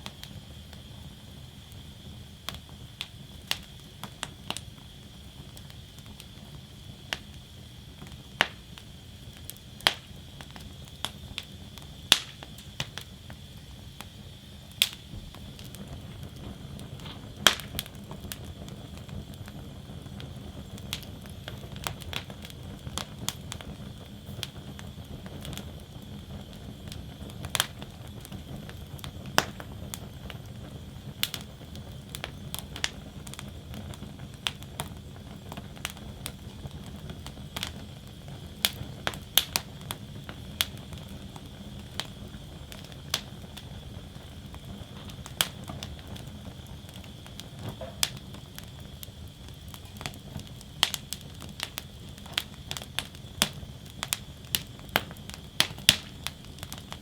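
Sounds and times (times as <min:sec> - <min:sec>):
wood crackling and popping: 0:00.0 - 0:57.0
wood fire burning: 0:00.0 - 0:57.0.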